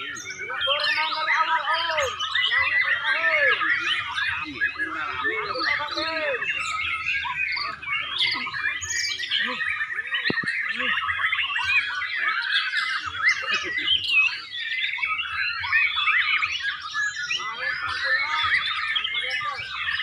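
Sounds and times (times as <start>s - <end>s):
birds singing whistles and chirps: 0.0s - 20.0s.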